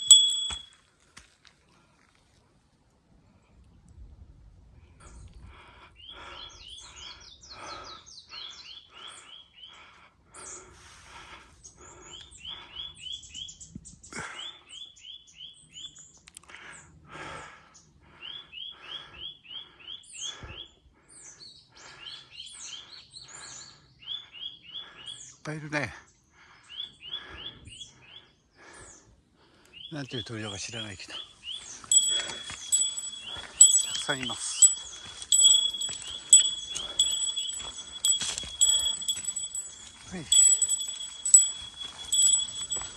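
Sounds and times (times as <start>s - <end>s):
small birds chirping: 4.9s - 17.0s, 17.7s - 42.9s.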